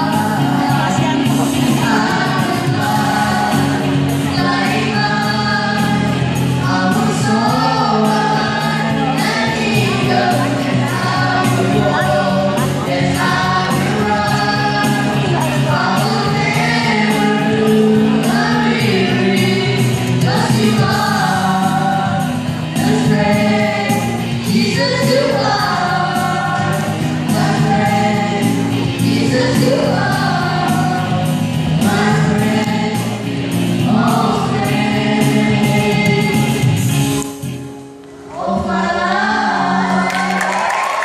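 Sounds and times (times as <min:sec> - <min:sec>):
boys singing into microphones: 0:00.0 - 0:37.4, 0:38.1 - 0:41.0
backing music with steady beat: 0:00.0 - 0:41.0.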